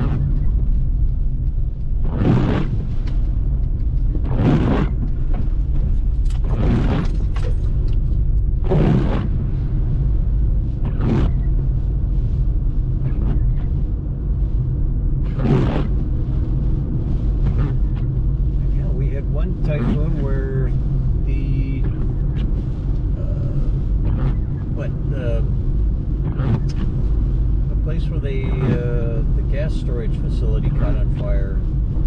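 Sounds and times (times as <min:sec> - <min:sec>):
engine rumble and tyres on wet road: 0:00.0 - 0:32.0
windshield wipers swishing: 0:00.0 - 0:32.0.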